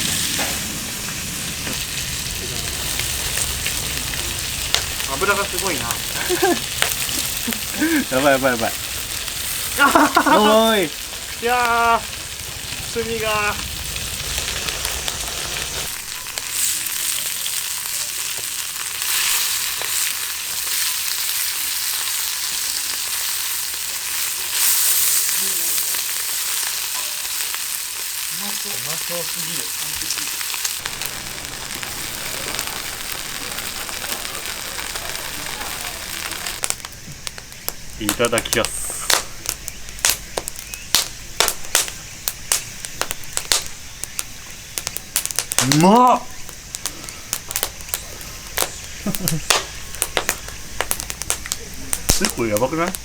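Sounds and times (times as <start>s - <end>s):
charcoal crackling and popping: 0.0s - 53.0s
meat sizzling on a grill: 0.0s - 53.0s.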